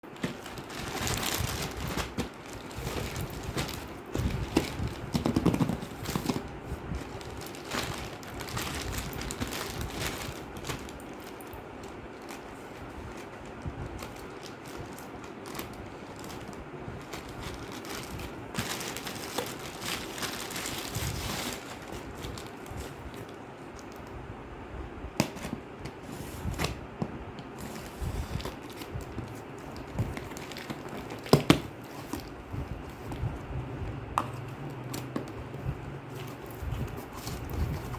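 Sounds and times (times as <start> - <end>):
packaging crinkling and rustling: 0.0 - 24.1, 27.4 - 33.4, 34.2 - 37.9.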